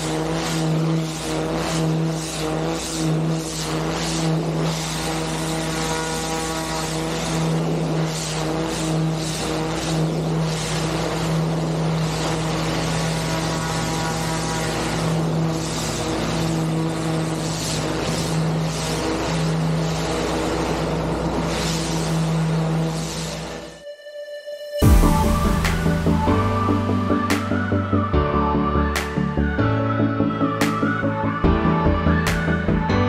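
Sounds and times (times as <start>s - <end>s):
motor drone: 0.0s - 23.9s, 24.7s - 33.0s.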